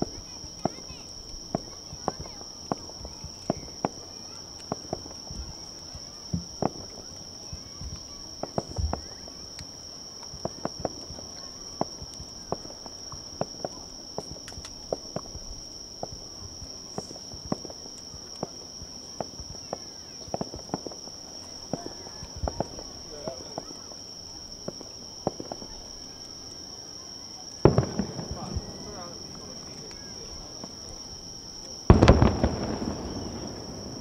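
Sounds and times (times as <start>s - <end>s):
fireworks bangs and pops: 0.0s - 24.0s, 24.6s - 25.8s, 27.6s - 34.0s
insects chirring: 0.0s - 34.0s.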